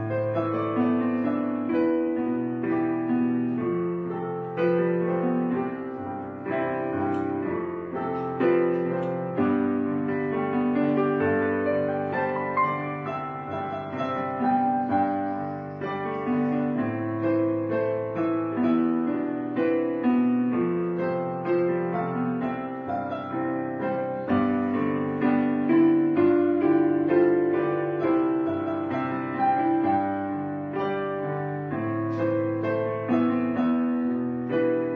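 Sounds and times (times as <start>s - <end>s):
slow piano music: 0.0s - 34.9s.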